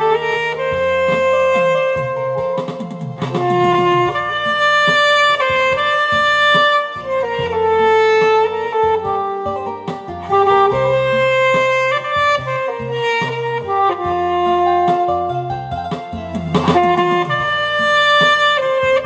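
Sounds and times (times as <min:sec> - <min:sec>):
alto saxophone slow melody: 0:00.0 - 0:19.0
musical accompaniment: 0:00.0 - 0:19.0.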